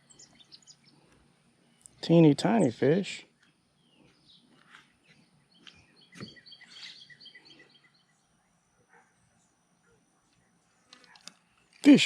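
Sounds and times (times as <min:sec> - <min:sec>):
bird chirping: 0:00.0 - 0:02.0, 0:02.6 - 0:11.8.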